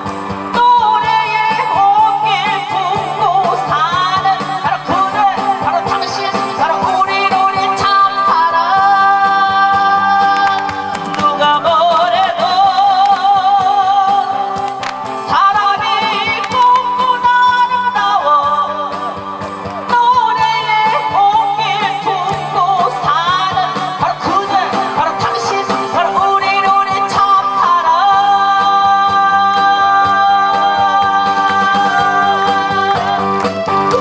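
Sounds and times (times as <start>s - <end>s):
woman singing with vibrato: 0.0s - 33.4s
amplified backing track: 0.0s - 34.0s.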